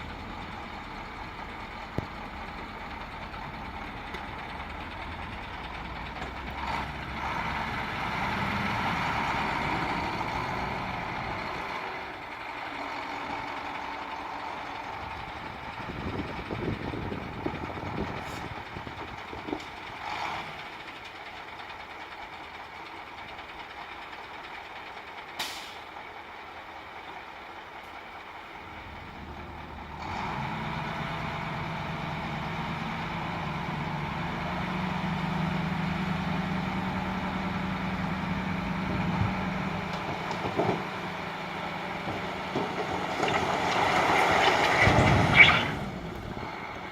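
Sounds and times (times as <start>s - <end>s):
heavy diesel machinery running: 0.0s - 46.9s.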